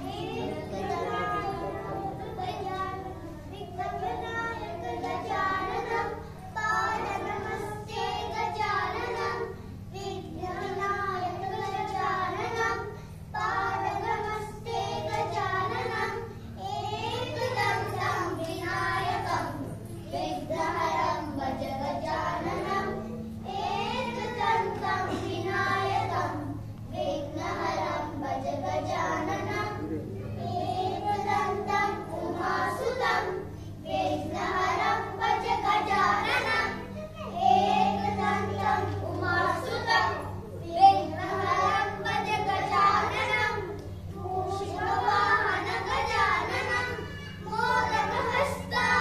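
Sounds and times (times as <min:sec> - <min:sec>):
steady low hum: 0:00.0 - 0:49.0
young children singing: 0:00.0 - 0:49.0.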